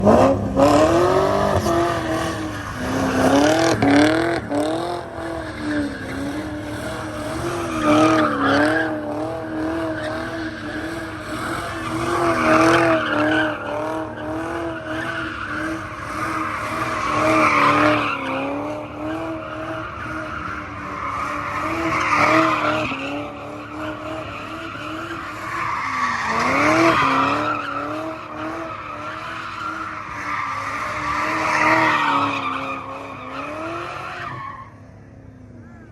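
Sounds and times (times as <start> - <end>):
car engine at high revs: 0.0 - 35.9.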